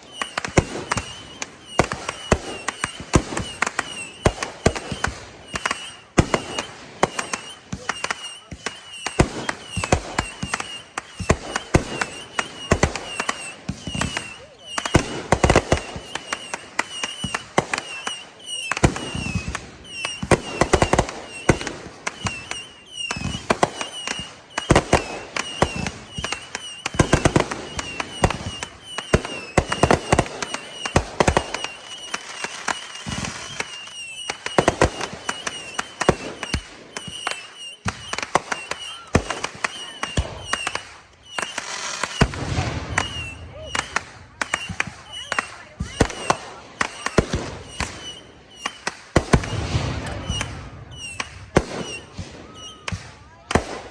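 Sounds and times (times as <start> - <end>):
fireworks bangs and volleys: 0.0 - 53.9.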